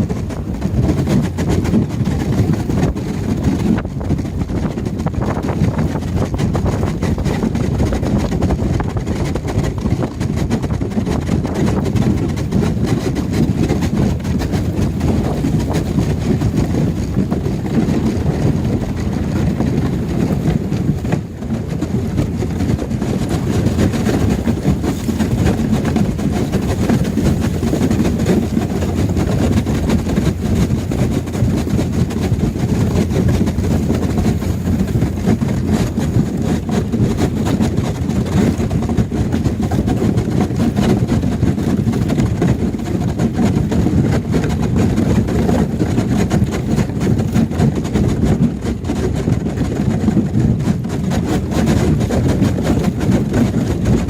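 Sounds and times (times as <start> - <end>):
boat breaking through ice: 0.0 - 54.0
boat engine rumbling: 0.0 - 54.0.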